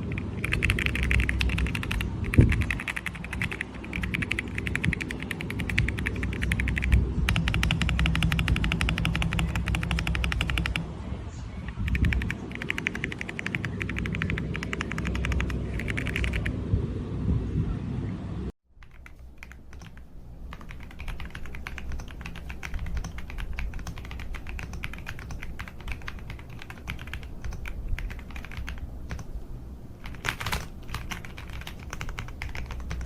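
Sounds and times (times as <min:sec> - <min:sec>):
fast mechanical keyboard typing: 0:00.0 - 0:10.8, 0:11.7 - 0:16.5, 0:18.8 - 0:29.4, 0:30.0 - 0:33.0.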